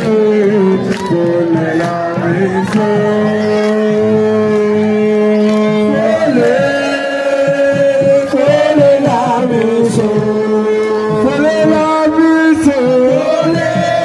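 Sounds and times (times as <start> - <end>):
drum beats: 0.0 - 14.0.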